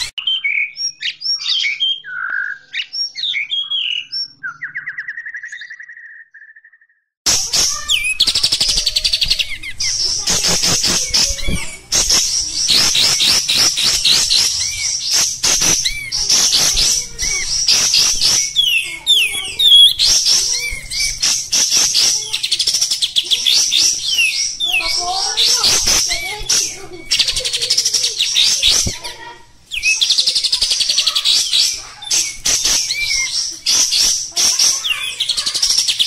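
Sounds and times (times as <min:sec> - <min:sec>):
bird chattering song: 0:00.0 - 0:36.0.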